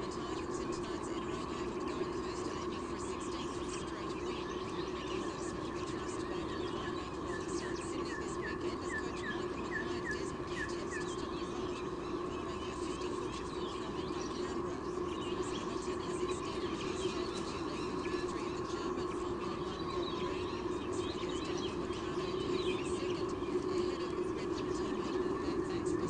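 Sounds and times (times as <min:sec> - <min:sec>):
faint bird twittering: 0:00.0 - 0:26.0
steady hum: 0:00.0 - 0:26.0.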